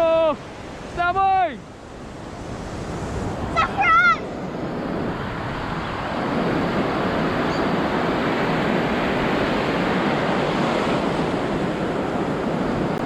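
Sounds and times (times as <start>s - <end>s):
waves breaking in surf: 0.0s - 13.0s.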